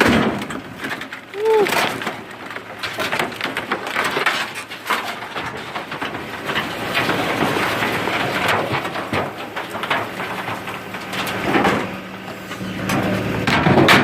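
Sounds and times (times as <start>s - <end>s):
garbage truck compactor crushing rubbish: 0.0s - 14.0s.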